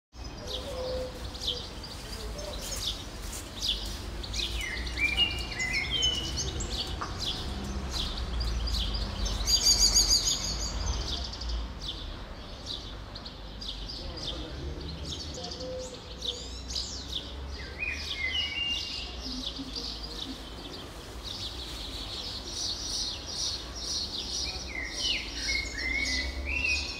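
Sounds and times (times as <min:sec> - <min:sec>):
birds singing and calling: 0:00.2 - 0:26.9.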